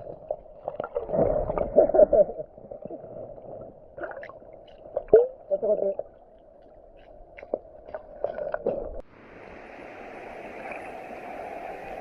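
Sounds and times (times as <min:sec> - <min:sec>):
water flowing: 0:00.0 - 0:12.0.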